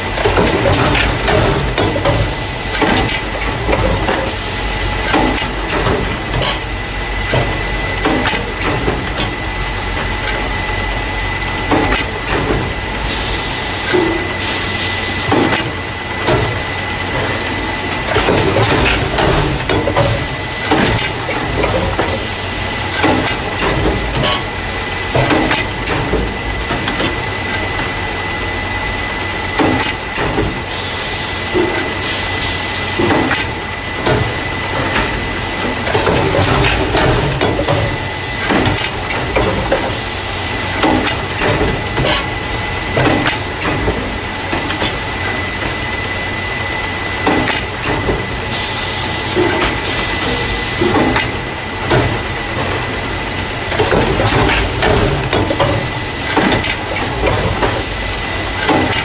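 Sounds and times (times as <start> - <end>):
machine hiss: 0.0 - 59.0.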